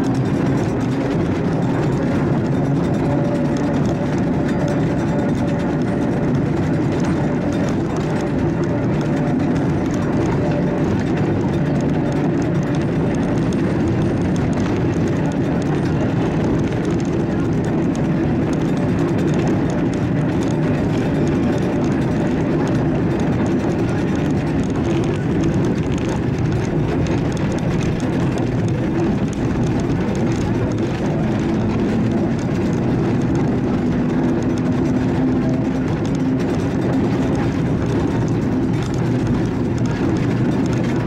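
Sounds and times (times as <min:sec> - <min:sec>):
tram wheels rumbling on rails: 0:00.0 - 0:41.0.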